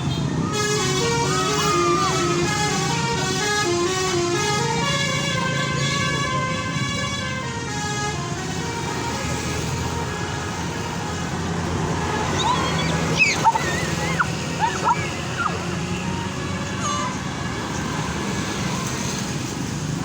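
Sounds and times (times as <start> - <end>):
musical bus horn playing tune: 0.0 - 19.3
bus engine running: 0.0 - 20.0.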